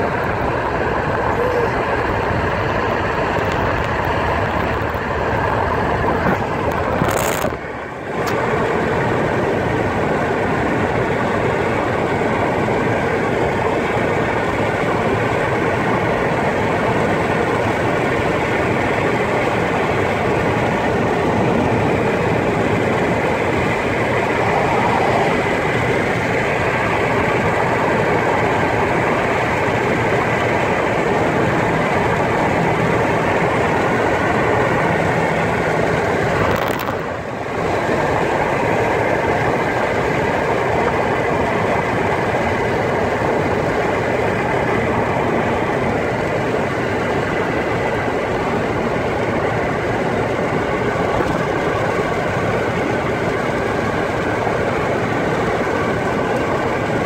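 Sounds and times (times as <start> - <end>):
vehicle engine running: 0.0 - 57.0
wind rush: 0.0 - 57.0.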